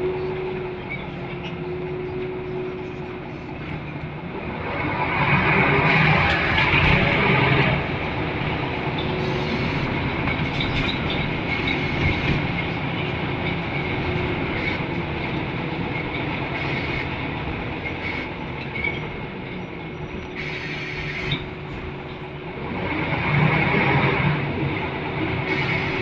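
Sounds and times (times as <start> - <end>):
bus interior drone: 0.0 - 26.0.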